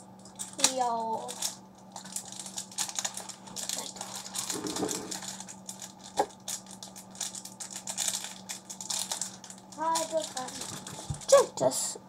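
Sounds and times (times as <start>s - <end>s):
plastic wrapper crackling: 0.2s - 11.4s.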